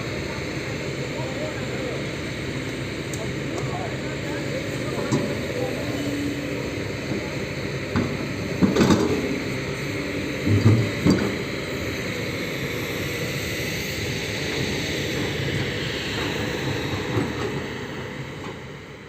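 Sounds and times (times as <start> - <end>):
heavy machine engine running: 0.0 - 19.0.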